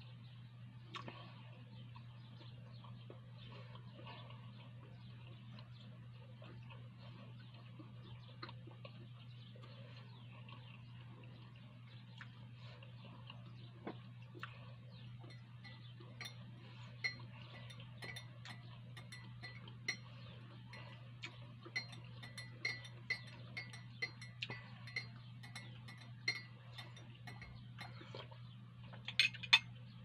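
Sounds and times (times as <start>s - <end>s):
low steady hum: 0.0s - 30.0s
wet chewing clicks and smacks: 0.9s - 29.2s.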